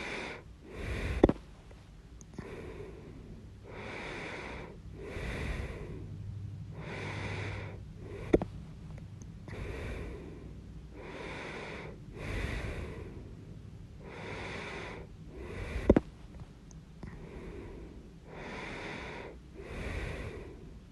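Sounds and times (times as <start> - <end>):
person breathing audibly: 0.0 - 1.6, 2.2 - 8.6, 9.4 - 16.4, 17.0 - 20.9.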